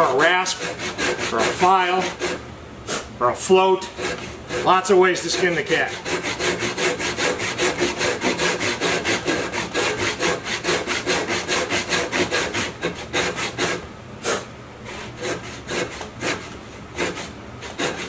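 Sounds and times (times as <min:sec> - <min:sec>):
handsaw cutting hard wood: 0:00.0 - 0:18.0.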